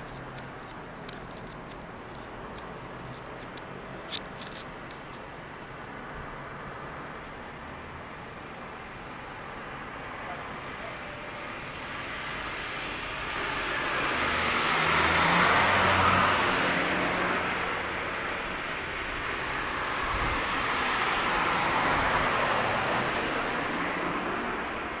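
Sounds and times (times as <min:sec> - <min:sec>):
car passing: 0:00.0 - 0:25.0.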